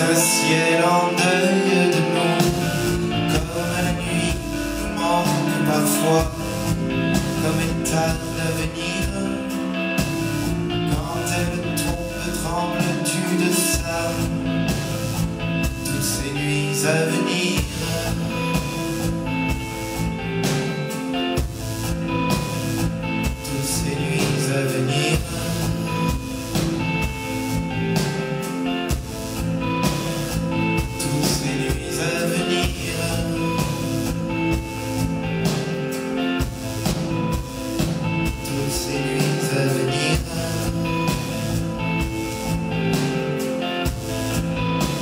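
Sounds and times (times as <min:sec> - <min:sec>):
electric bass: 0:00.0 - 0:45.0
pop band playing slow song: 0:00.0 - 0:45.0.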